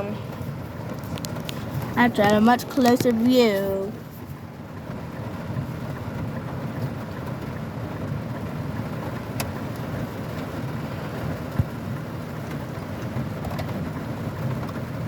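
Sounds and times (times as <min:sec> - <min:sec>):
vehicle rumble in heavy rain: 0:00.0 - 0:15.0.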